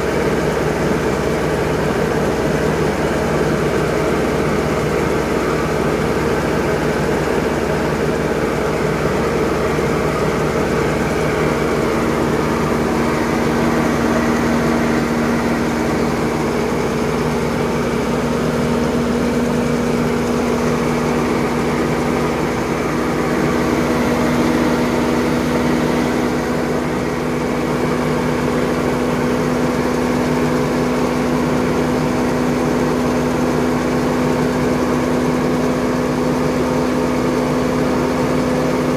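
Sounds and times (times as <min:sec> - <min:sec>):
engine driving grain auger: 0:00.0 - 0:38.9.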